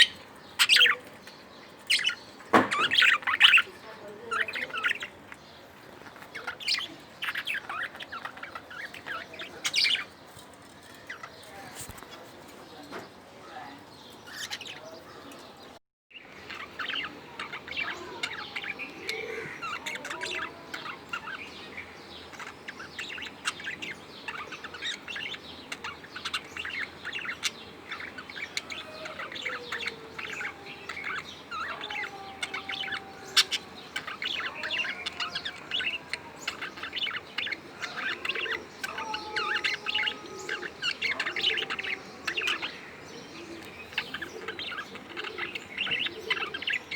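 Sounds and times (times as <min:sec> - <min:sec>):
budgerigars chattering: 0:00.0 - 0:01.1, 0:01.9 - 0:10.2, 0:10.8 - 0:15.5, 0:16.2 - 0:46.9.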